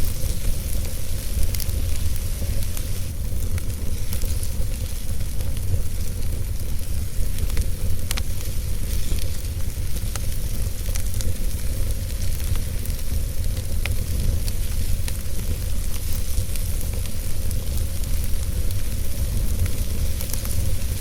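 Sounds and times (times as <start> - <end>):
fire rumbling and hissing: 0.0 - 21.0
logs crackling and popping: 0.0 - 21.0.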